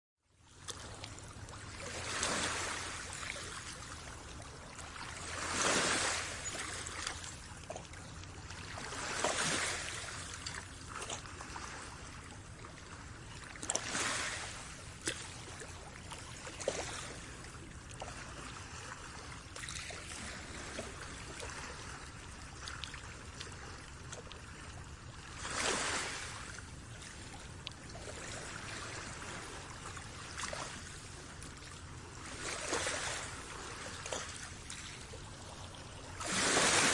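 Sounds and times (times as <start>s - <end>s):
water trickling and splashing: 0.4s - 36.9s
small waves washing in: 0.5s - 36.9s.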